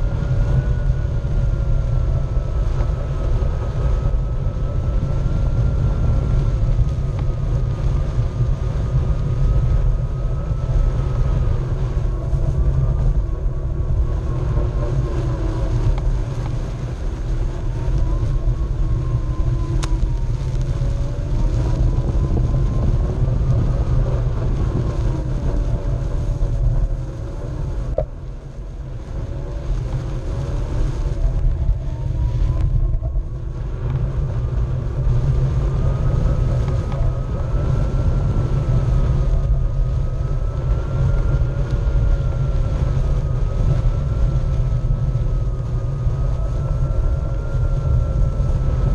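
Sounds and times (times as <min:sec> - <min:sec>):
electric motor whine: 0:00.0 - 0:48.9
low rumble of tyre and air: 0:00.0 - 0:48.9.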